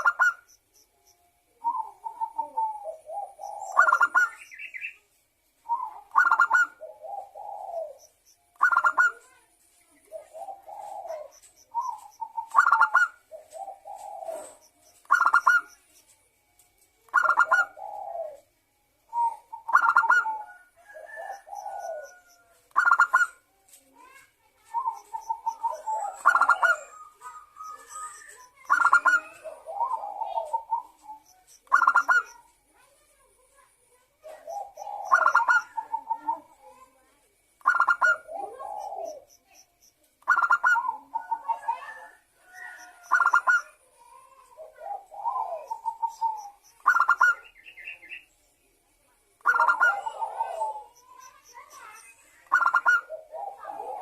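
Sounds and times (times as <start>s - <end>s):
dove cooing song: 0.0s - 0.6s, 1.5s - 5.0s, 5.6s - 15.8s, 17.1s - 32.5s, 34.2s - 39.5s, 40.2s - 48.2s, 49.4s - 54.0s.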